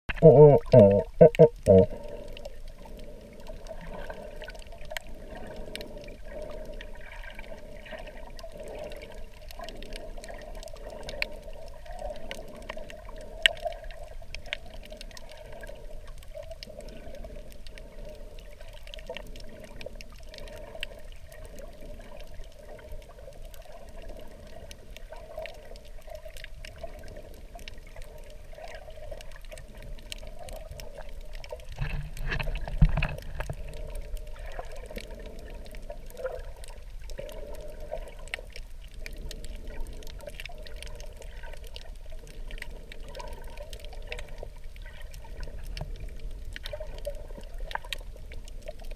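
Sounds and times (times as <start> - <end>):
faint underwater clicks: 0.1 - 48.9
muffled underwater wash: 0.1 - 48.9.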